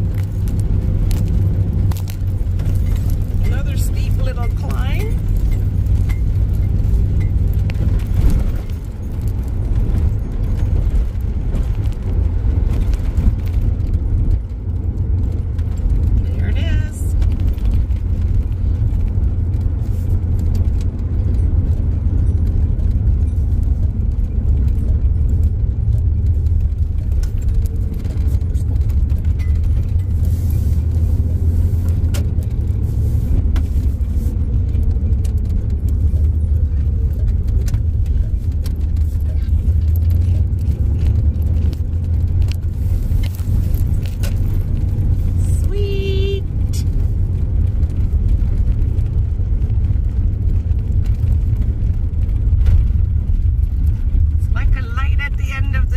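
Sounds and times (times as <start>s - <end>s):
van engine and road rumble: 0.0s - 55.9s.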